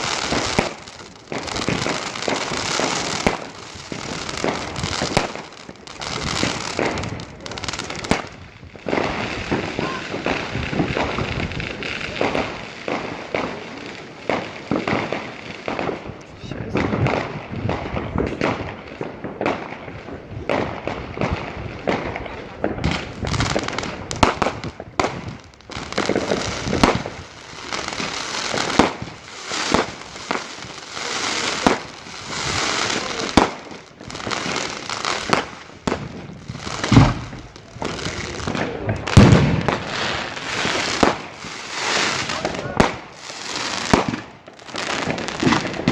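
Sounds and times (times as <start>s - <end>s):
deep loud firework booms: 0.0s - 45.9s
fireworks bangs and crackling: 0.0s - 45.9s.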